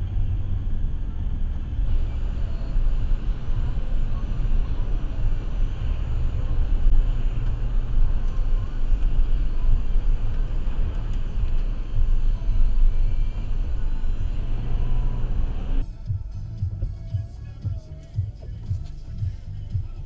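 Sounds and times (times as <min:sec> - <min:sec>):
car driving road noise: 0:00.0 - 0:20.0
quiet music: 0:00.0 - 0:20.0.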